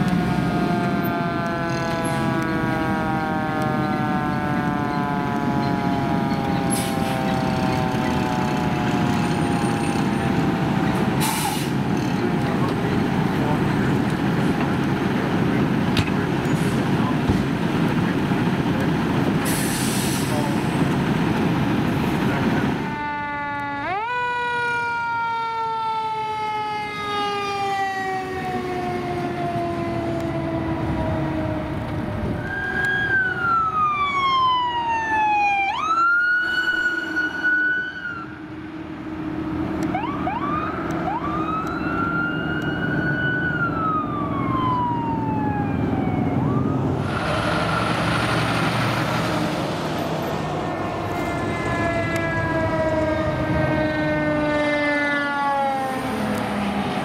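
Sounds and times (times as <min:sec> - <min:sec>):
diesel engines: 0:00.0 - 0:57.0
fire truck sirens wailing: 0:00.0 - 0:57.0.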